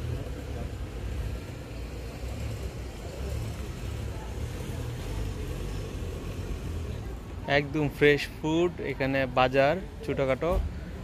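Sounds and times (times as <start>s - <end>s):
low rumble of street ambience: 0.0s - 11.0s.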